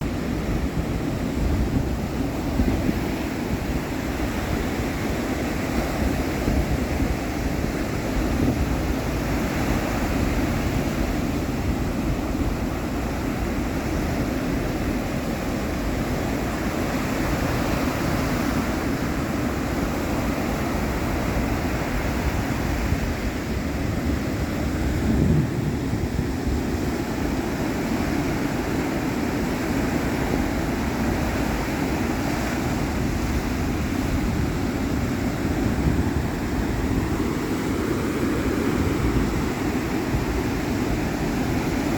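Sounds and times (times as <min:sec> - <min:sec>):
ocean waves breaking on shore: 0:00.0 - 0:41.9
wind rumbling on microphone: 0:00.0 - 0:41.9.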